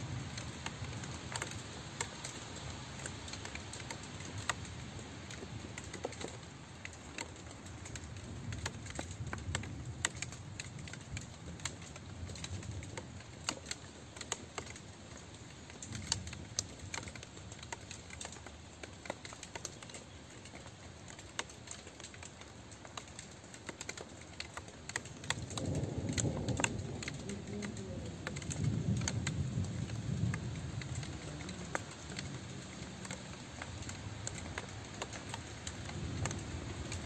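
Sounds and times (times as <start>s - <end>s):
rain drops tapping: 0.0s - 37.0s
steady rain hiss: 0.0s - 37.0s.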